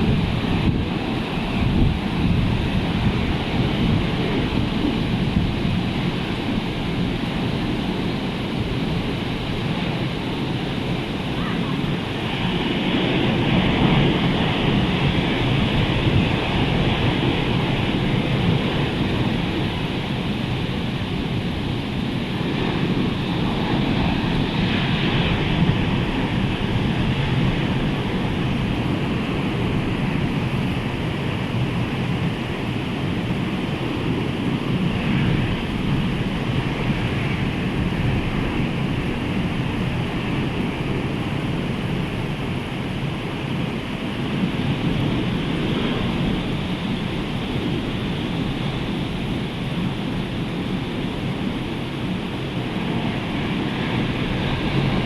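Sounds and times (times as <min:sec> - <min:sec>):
sea surf breaking: 0:00.0 - 0:55.0
wind buffeting microphone: 0:00.0 - 0:55.0.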